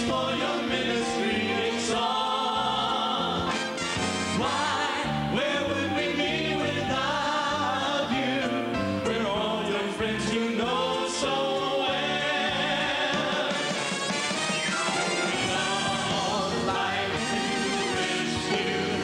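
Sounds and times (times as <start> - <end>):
vocal group singing gospel: 0.0 - 14.1, 14.8 - 19.0
band accompaniment: 0.0 - 19.0.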